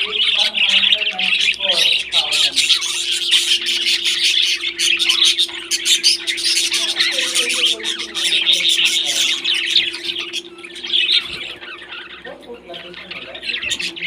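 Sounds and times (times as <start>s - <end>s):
parrots chirping and squawking: 0.0s - 14.0s
steady low hum: 0.0s - 14.0s.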